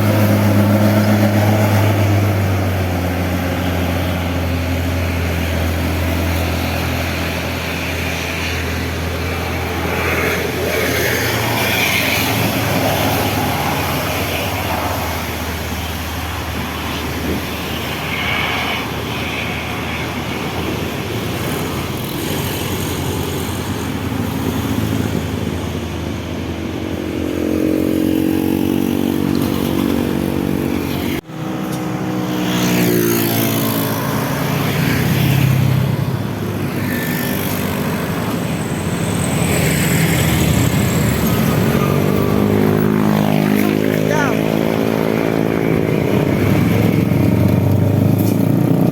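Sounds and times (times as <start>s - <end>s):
vehicle engines passing: 0.0s - 48.9s.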